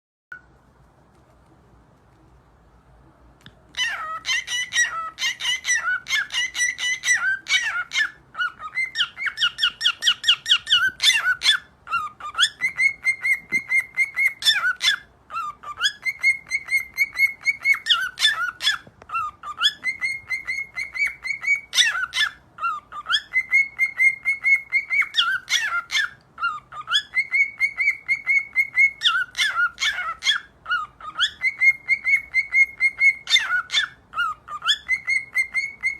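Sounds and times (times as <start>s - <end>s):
cockatiel whistling a song: 3.7s - 35.9s.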